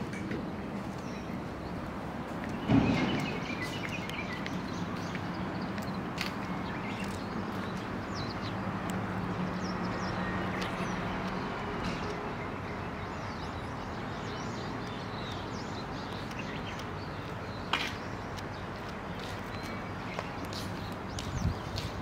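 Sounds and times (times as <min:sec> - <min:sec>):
small birds chirping: 0:00.5 - 0:22.0.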